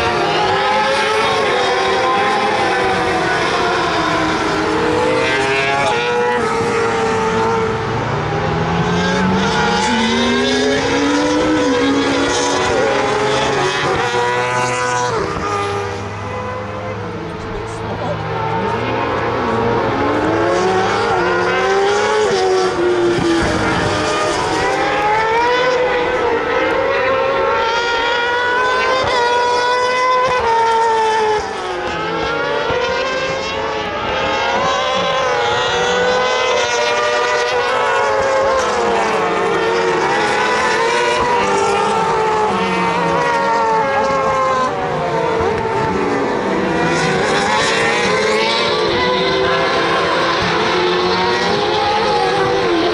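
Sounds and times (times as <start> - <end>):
racing motorcycle engines revving: 0.0 - 52.9.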